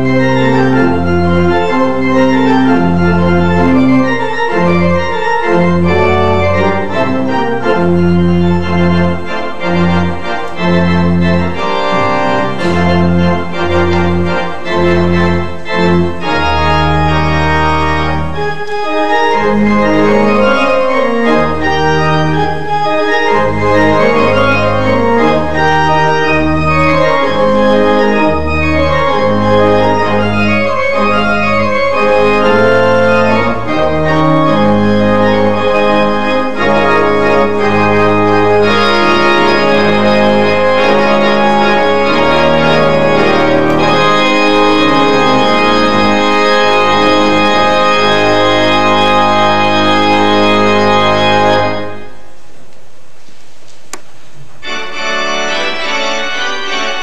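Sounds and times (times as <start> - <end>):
church organ chords: 0.0 - 52.6, 54.0 - 57.0.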